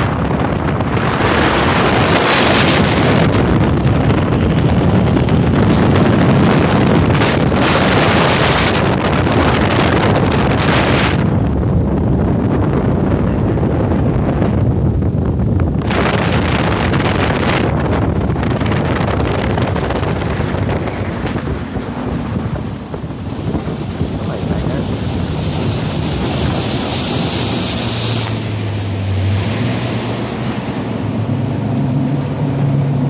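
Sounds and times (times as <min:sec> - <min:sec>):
outboard motor humming: 0:00.0 - 0:33.0
water rushing along hull: 0:00.0 - 0:33.0
wind buffeting microphone: 0:00.0 - 0:33.0.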